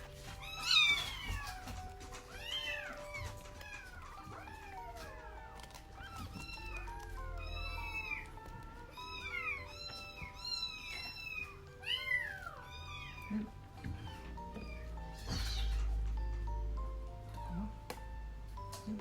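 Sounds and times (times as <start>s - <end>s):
kittens mewing: 0.0s - 17.9s
background music: 0.0s - 19.0s.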